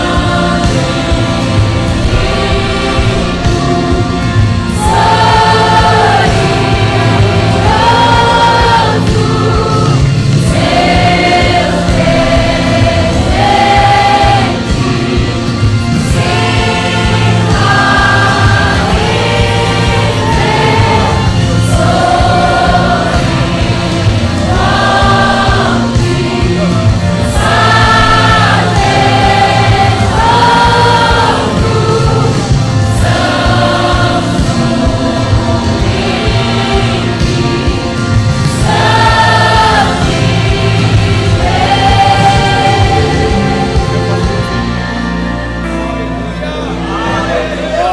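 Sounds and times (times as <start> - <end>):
band accompaniment: 0.0 - 47.9
group singing gospel song: 0.0 - 47.9.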